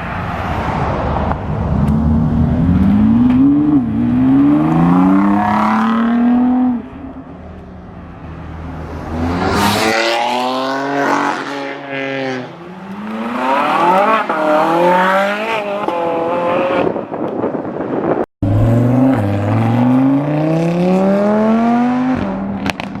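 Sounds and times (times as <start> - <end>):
car engines revving: 0.0 - 17.2, 18.4 - 23.0.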